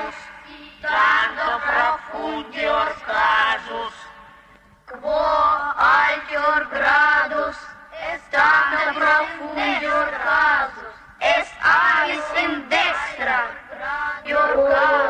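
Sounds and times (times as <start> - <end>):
cartoon voices chanting: 0.0 - 4.1, 5.0 - 15.0.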